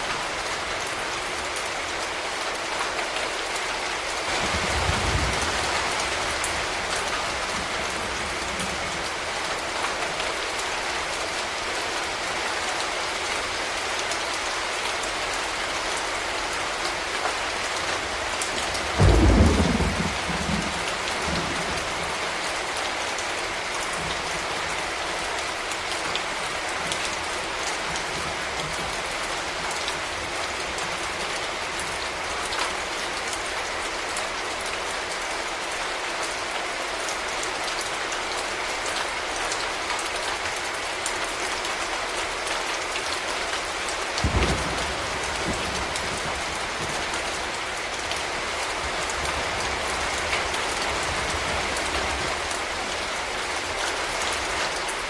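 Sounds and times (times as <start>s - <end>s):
rain on hard surfaces: 0.0s - 55.0s.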